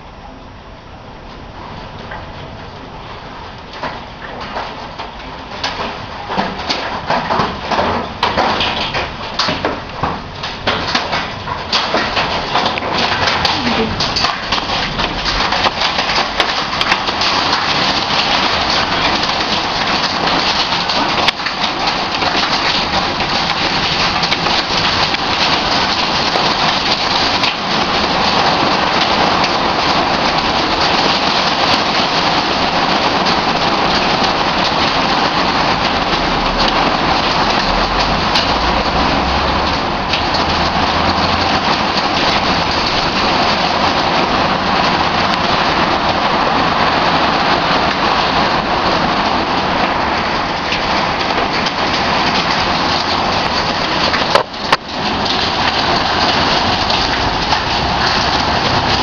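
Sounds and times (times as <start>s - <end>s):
heavy rain hissing: 0.0s - 59.0s
hailstones clicking on tiles: 3.6s - 59.0s.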